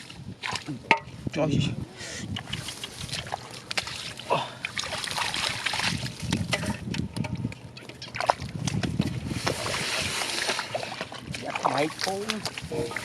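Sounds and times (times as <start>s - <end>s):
splashing in muddy water: 0.0s - 0.9s, 2.3s - 7.1s, 7.8s - 13.0s.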